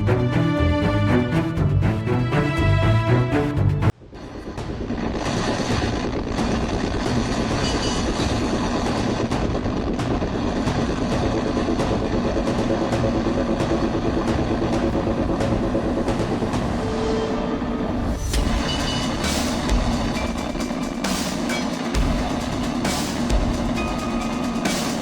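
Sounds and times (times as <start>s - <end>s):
background music: 0.0s - 6.3s, 6.9s - 25.0s
machinery rumbling: 0.0s - 25.0s.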